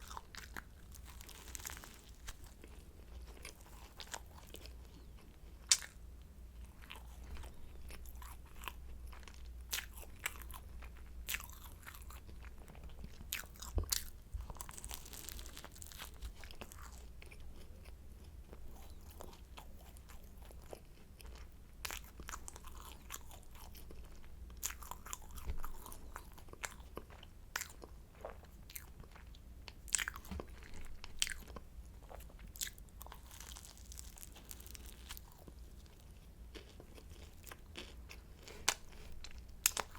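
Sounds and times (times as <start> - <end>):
pastry crunching: 0.0 - 6.0, 6.6 - 29.2, 29.9 - 39.9
quiet chewing: 0.0 - 39.9.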